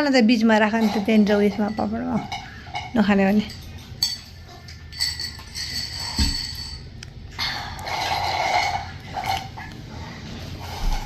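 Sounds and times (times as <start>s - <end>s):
dishes clinking: 0.5s - 9.8s.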